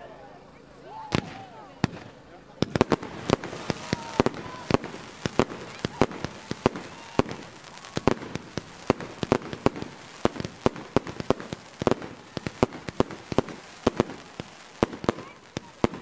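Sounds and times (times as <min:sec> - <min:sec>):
fireworks bangs: 0:00.8 - 0:16.0.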